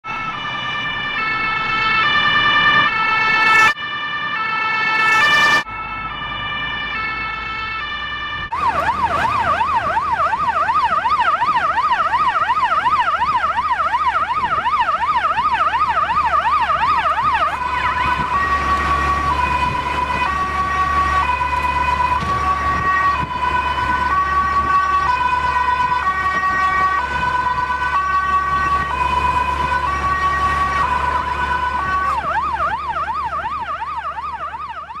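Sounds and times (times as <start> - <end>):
police siren: 0.0 - 35.0.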